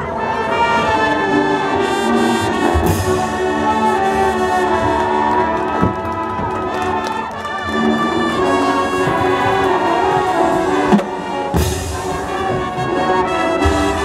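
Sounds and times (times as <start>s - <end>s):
marching band playing: 0.0s - 14.0s
drumline: 0.2s - 14.0s.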